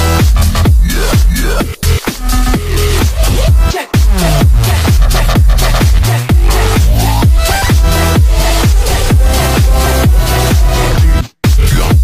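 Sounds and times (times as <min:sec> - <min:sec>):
deep bass: 0:00.0 - 0:12.0
electronic dance music: 0:00.0 - 0:12.0
fast kick-drum beat: 0:00.0 - 0:12.0.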